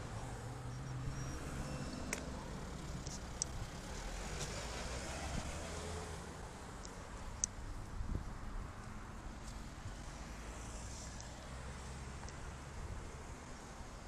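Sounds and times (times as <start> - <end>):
car engine hum and tyre noise: 0.0 - 14.0.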